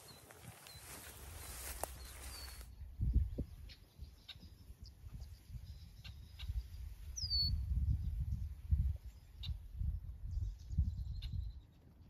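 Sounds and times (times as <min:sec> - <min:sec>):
wind gusting over microphone: 0:01.2 - 0:11.6.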